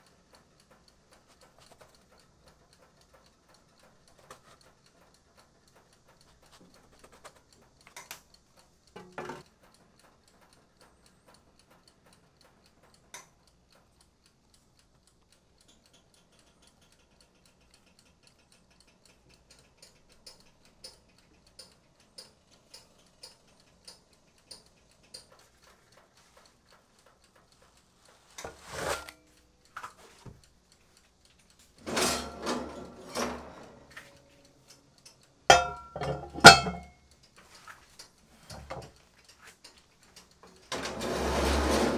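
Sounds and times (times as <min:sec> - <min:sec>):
light clicks and taps: 0:00.0 - 0:31.8, 0:33.4 - 0:40.7
soft evenly spaced ticks: 0:00.0 - 0:36.0, 0:36.9 - 0:40.8.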